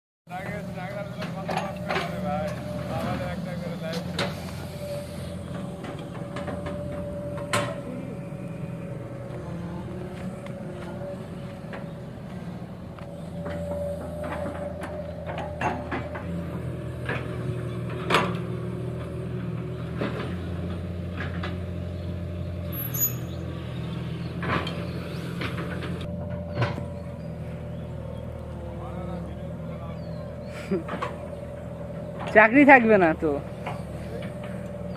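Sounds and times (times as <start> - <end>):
diesel engines running: 0.3 - 34.9.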